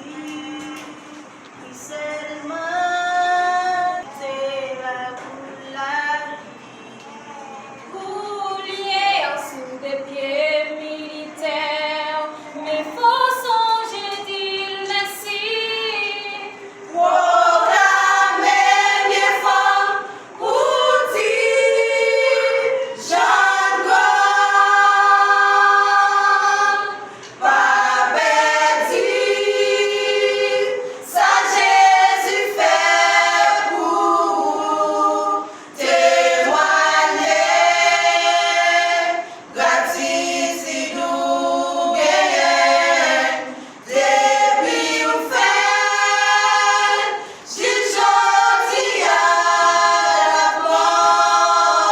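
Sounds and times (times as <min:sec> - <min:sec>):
vocal group singing gospel: 0:00.0 - 0:51.9.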